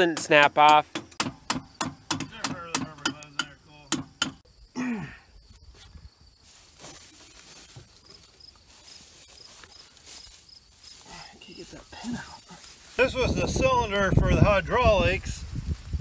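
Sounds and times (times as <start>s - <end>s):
insects chirping: 0.3s - 14.7s.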